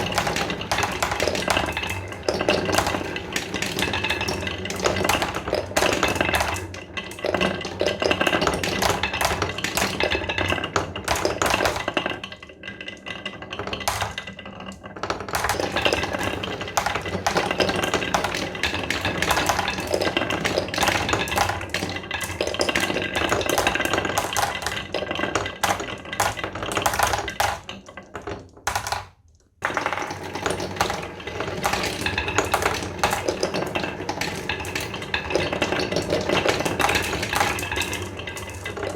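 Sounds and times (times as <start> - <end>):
small hard objects clattering: 0.0 - 38.9.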